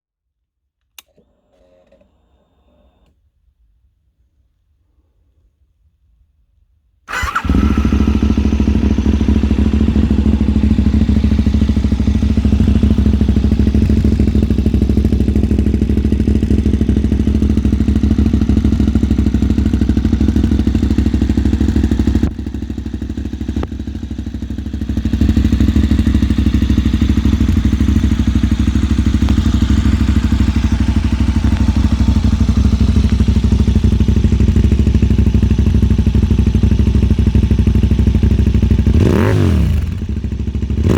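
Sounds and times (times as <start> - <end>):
motorcycle engine idling: 7.1 - 40.9.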